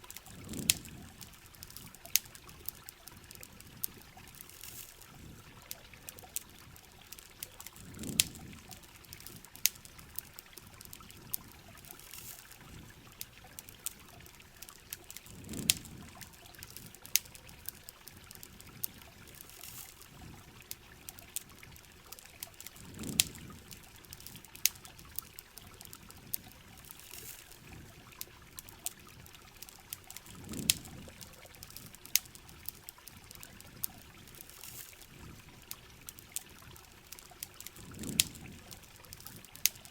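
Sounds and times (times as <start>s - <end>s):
campfire crackling: 0.0s - 39.9s
river water running: 0.0s - 39.9s.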